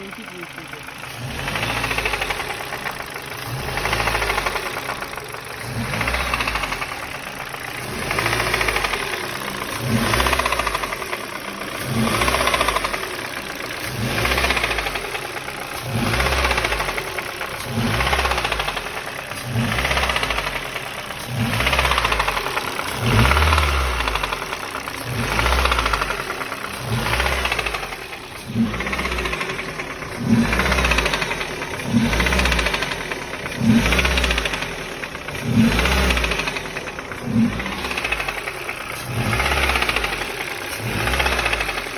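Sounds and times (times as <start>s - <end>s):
car engine revving: 0.0s - 41.9s
engine knock: 0.0s - 41.9s.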